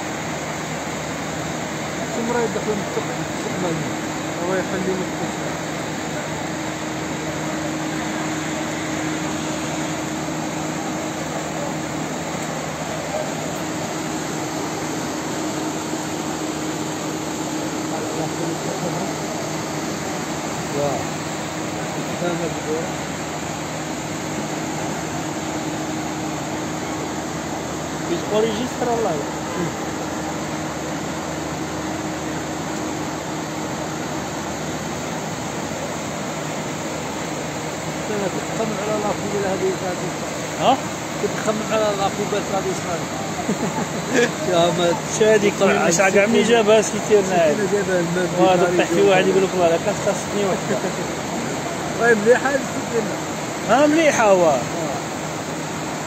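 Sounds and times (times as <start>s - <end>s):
floodwater rushing down street: 0.0s - 56.0s.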